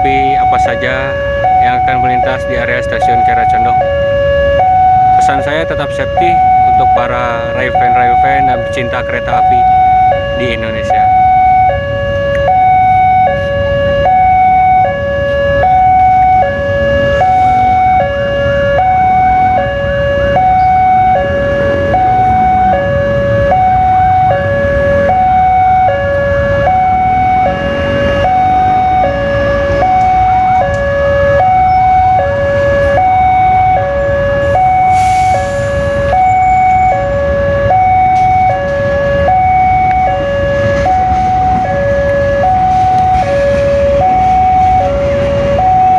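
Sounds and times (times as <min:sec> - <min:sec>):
level crossing two-tone alarm: 0:00.0 - 0:45.9.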